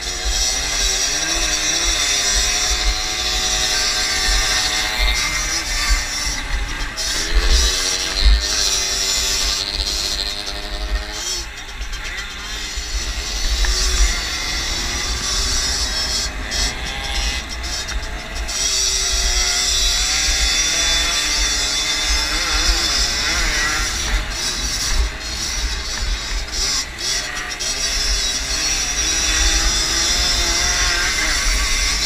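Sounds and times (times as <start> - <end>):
motorbike engine revving: 0.0 - 32.0
wind buffeting microphone: 0.0 - 32.0.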